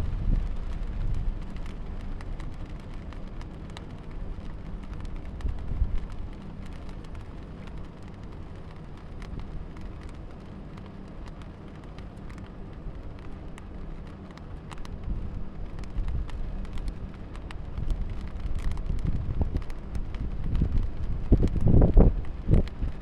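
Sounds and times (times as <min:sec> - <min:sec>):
rain falling: 0:00.0 - 0:23.0
steady low rumble: 0:00.0 - 0:23.0.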